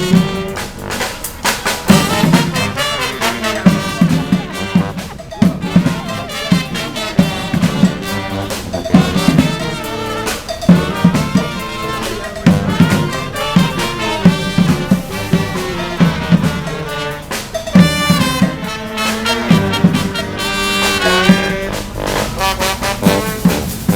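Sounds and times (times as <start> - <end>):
steady drum beat: 0.0 - 23.9
street brass band playing: 0.0 - 23.9.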